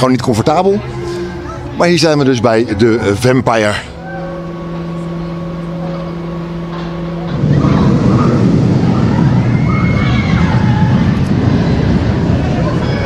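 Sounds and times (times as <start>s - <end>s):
roller coaster rushing rumble: 0.0s - 13.0s
steady hum: 0.0s - 13.0s.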